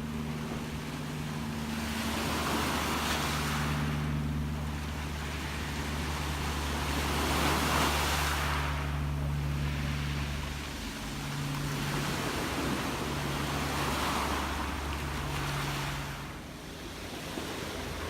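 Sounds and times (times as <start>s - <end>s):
sea waves washing in: 0.0s - 18.0s
steady low hum: 0.0s - 18.0s.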